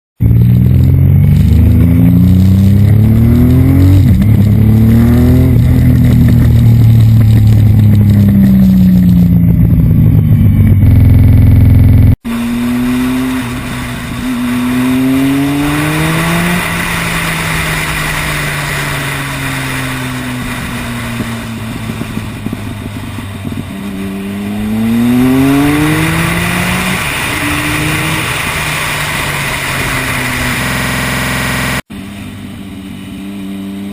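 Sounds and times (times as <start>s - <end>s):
exhaust popping and banging: 0.2s - 11.6s, 12.5s - 31.9s
motorcycle engine revving: 0.2s - 33.9s.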